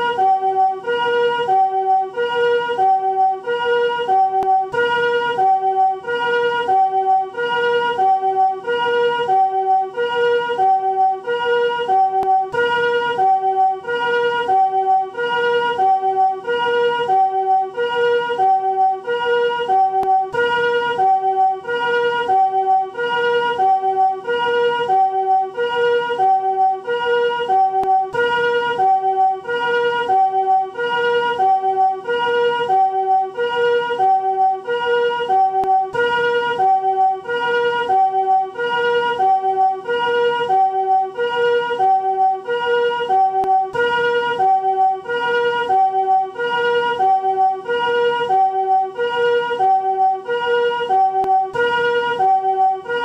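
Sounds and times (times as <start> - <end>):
two-tone ambulance siren: 0.0 - 53.0.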